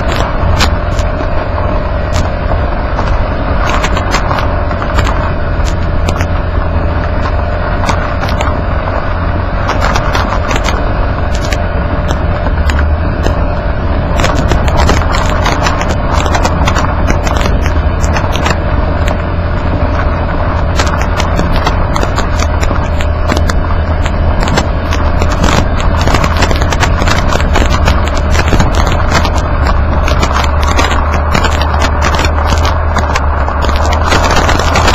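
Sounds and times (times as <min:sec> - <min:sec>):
steady hum: 0:00.0 - 0:34.9
tyres and wind rumbling: 0:00.0 - 0:34.9.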